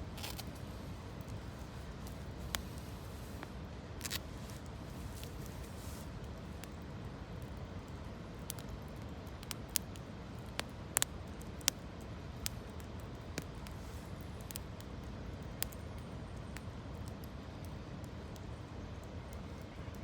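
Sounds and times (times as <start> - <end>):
low rush of fire: 0.0 - 19.8
campfire crackling and popping: 0.0 - 20.0.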